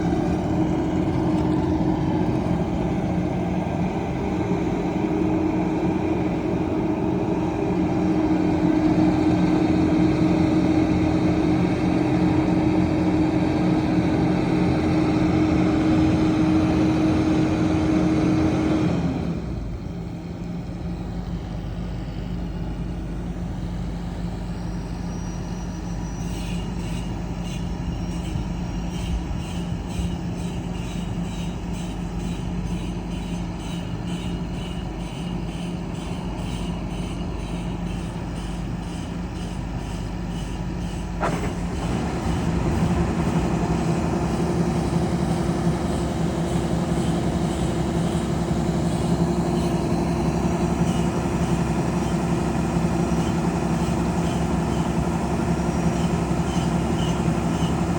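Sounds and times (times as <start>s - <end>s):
combine harvester running: 0.0s - 57.9s.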